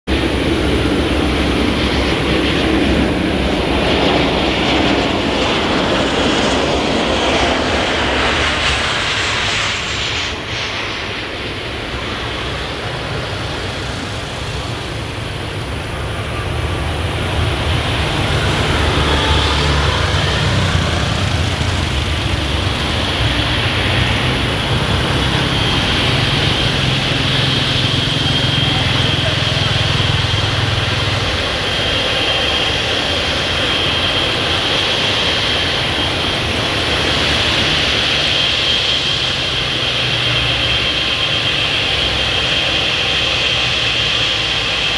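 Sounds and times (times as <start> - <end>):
jet engines whining: 0.1 - 44.9.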